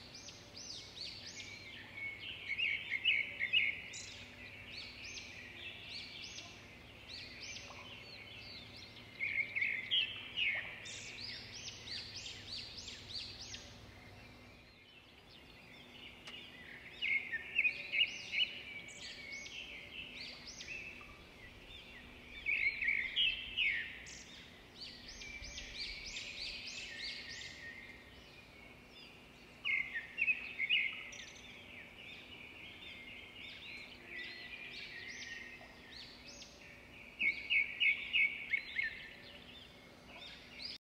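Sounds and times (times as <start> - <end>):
faint steady hum: 0.0 - 40.7
small birds chirping: 0.0 - 40.8.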